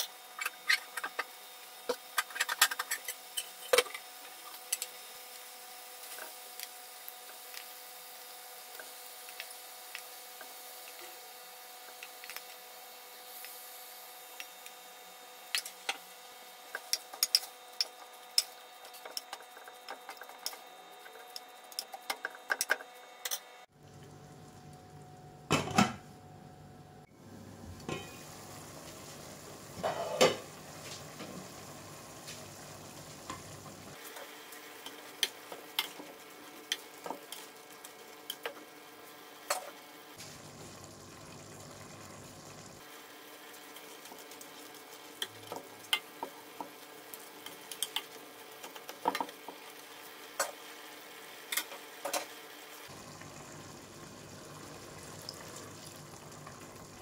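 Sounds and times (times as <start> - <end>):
faint sizzle: 0.0 - 22.2, 23.6 - 57.0.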